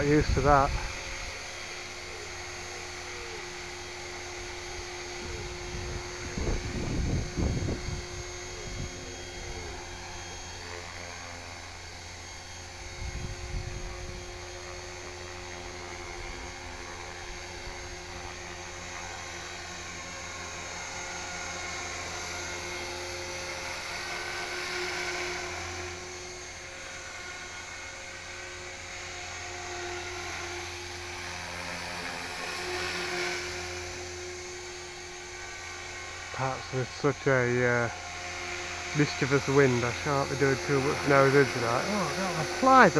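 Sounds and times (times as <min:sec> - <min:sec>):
rc helicopter motor whine: 0:00.0 - 0:42.9.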